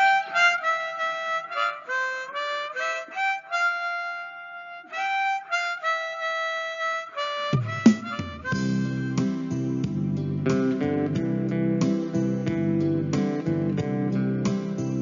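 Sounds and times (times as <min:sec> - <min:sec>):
reedy wind instrument melody: 0:00.0 - 0:14.2.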